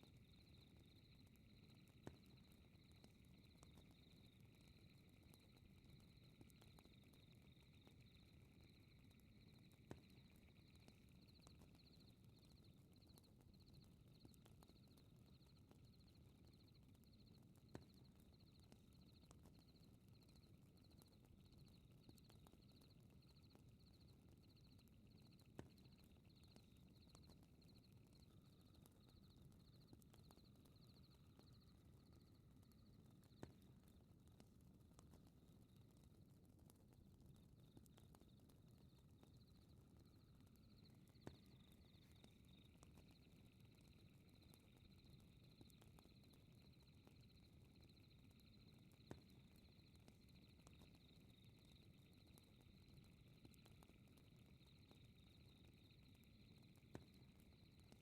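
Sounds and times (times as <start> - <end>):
insects chirping: 0.0 - 17.3, 20.4 - 33.4, 39.4 - 58.0.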